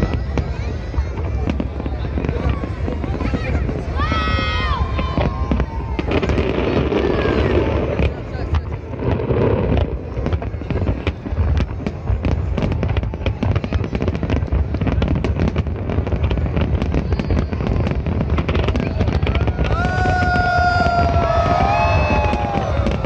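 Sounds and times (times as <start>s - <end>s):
firework whistling: 0.0s - 23.0s.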